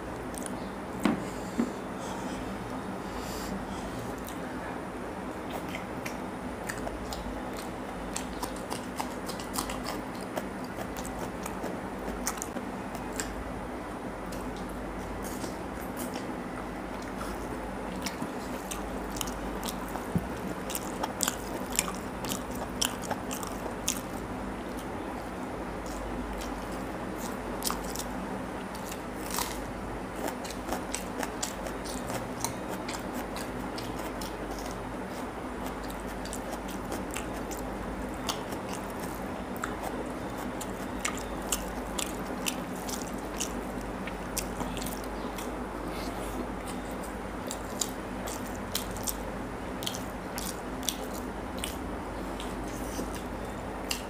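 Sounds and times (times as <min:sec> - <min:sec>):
wet chewing mouth clicks: 0:05.4 - 0:13.4, 0:17.0 - 0:24.9, 0:25.8 - 0:49.2, 0:49.8 - 0:54.0.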